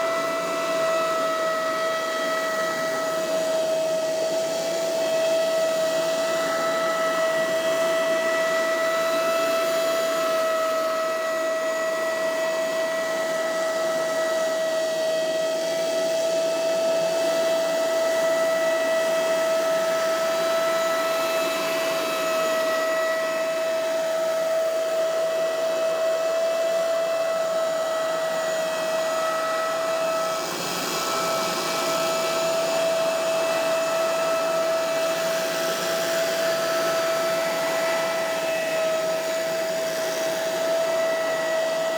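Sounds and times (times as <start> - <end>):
leaf blower running: 0.0 - 41.9.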